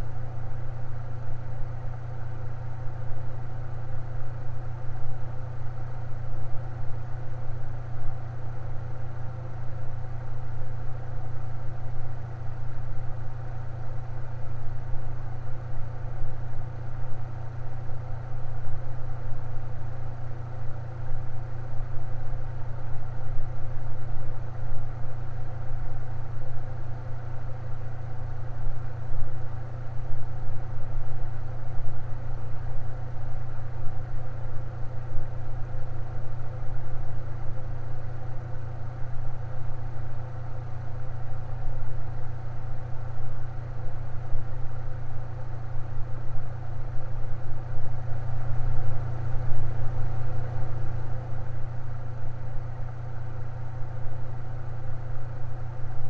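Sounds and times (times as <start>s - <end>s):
electric fan humming: 0.0s - 56.0s.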